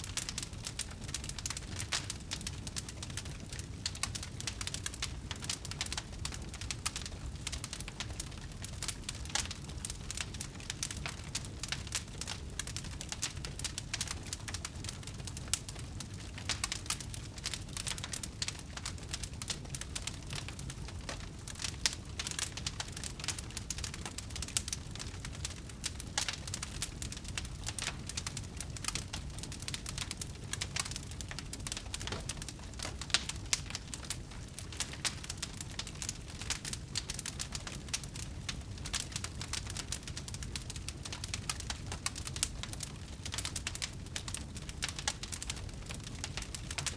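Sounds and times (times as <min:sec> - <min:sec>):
wood fire crackling in fireplace: 0:00.0 - 0:46.9.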